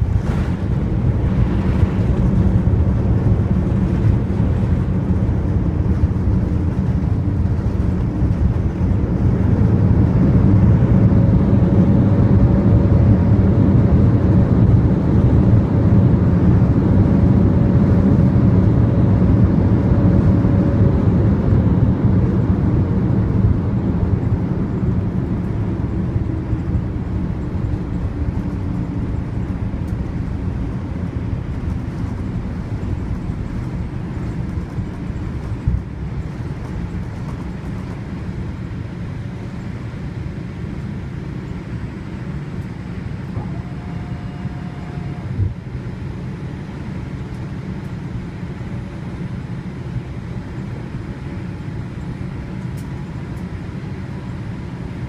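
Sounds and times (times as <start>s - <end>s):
jet engine noise: 0.0s - 55.0s
wheels rumbling on runway: 0.0s - 55.0s.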